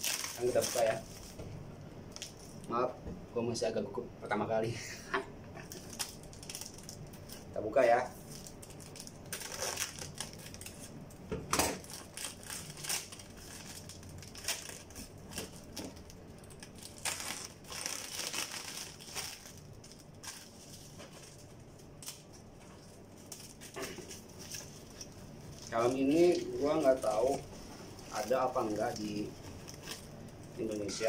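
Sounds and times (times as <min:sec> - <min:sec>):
plastic packaging crinkling: 0:00.0 - 0:01.4, 0:02.1 - 0:02.7, 0:05.6 - 0:11.0, 0:11.7 - 0:31.0.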